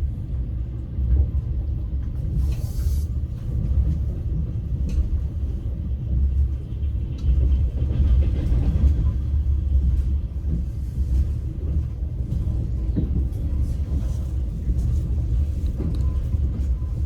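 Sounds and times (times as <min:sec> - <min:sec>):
train rumble from inside carriage: 0:00.0 - 0:17.0.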